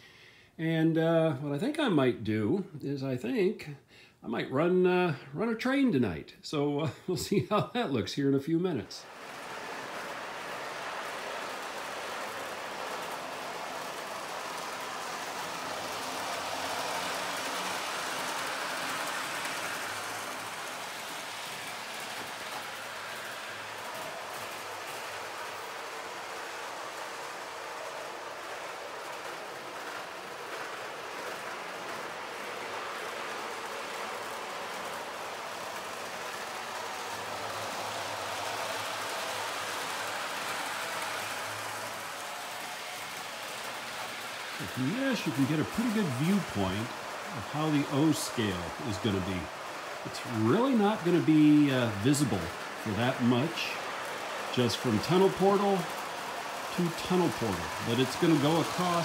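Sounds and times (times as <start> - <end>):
model train rolling whir: 6.8 - 59.0.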